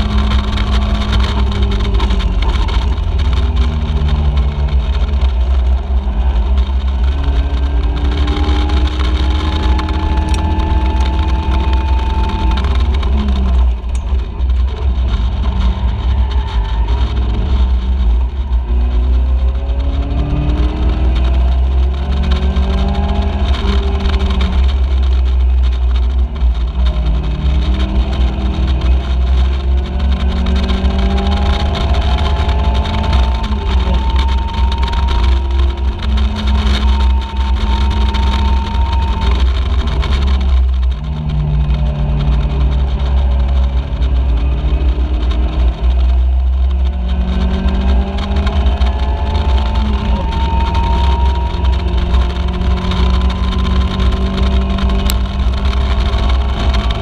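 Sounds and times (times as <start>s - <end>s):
race car engine revving: 0.0s - 57.0s
wind rumble on microphone: 0.0s - 57.0s.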